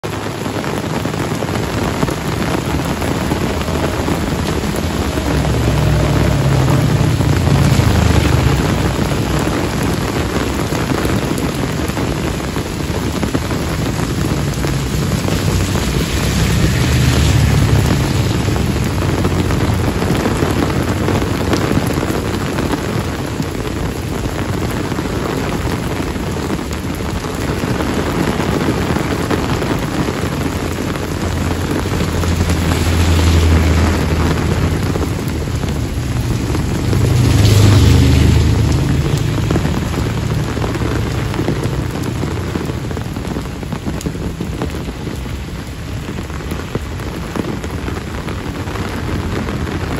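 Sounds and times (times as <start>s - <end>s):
heavy rain pouring on pavement: 0.0s - 49.9s
low rumble: 1.1s - 27.8s, 28.8s - 49.9s.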